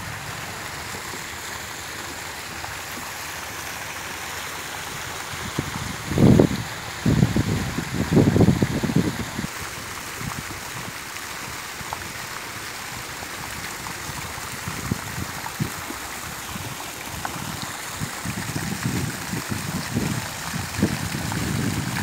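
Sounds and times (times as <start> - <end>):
fountain splashing into pond: 0.0 - 22.0.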